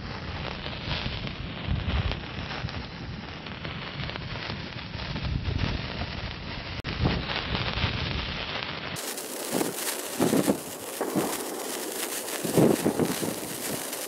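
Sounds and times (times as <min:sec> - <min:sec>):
sparkler fizzing and crackling: 0:00.0 - 0:14.0
wind rumble on microphone: 0:00.2 - 0:08.3, 0:09.4 - 0:14.0.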